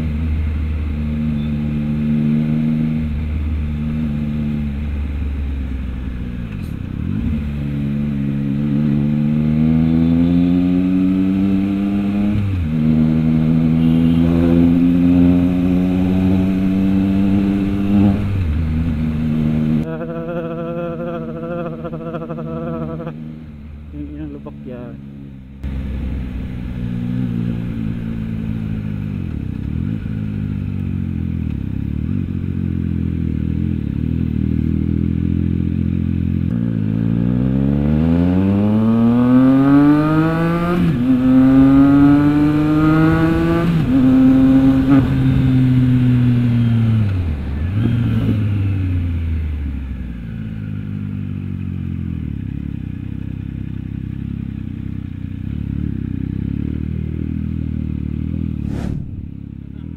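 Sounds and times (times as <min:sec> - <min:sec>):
motorcycle accelerating hard: 0:00.0 - 0:23.2, 0:25.6 - 0:59.9
motorcycle engine: 0:00.0 - 0:59.9.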